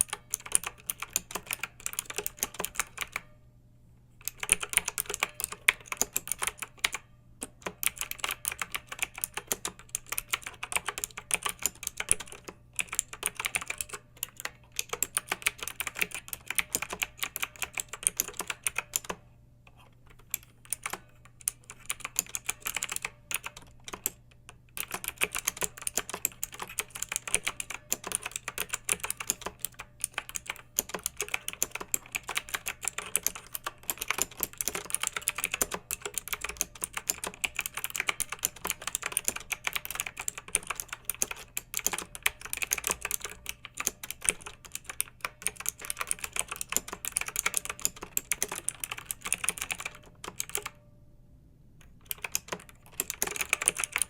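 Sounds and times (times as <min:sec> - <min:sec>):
mechanical keyboard typing: 0:00.0 - 0:03.4, 0:04.2 - 0:50.8, 0:51.8 - 0:54.0.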